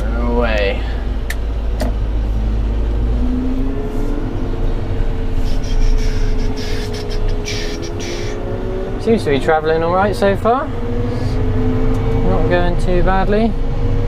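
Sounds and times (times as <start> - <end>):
tractor engine rumble with whine: 0.0 - 14.0.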